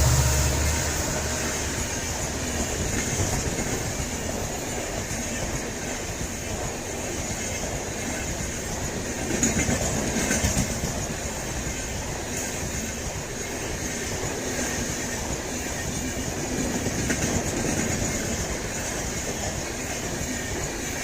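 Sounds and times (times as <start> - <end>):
train wheels clattering over rails: 0.0 - 21.0.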